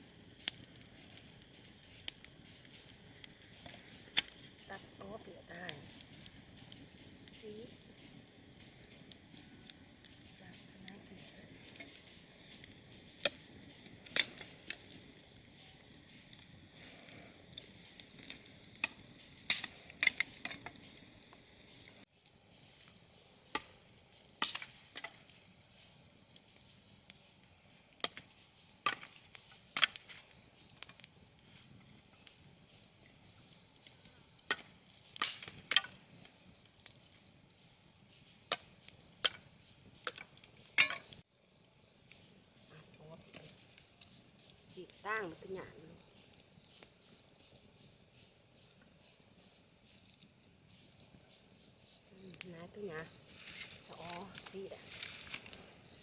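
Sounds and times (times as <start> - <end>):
faint fire hiss: 0.0 - 56.0
wood fire crackling and popping: 0.0 - 56.0.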